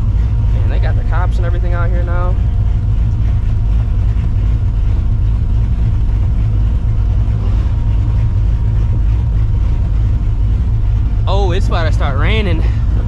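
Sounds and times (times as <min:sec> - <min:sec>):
car engine rumbling at low rpm: 0:00.0 - 0:13.0.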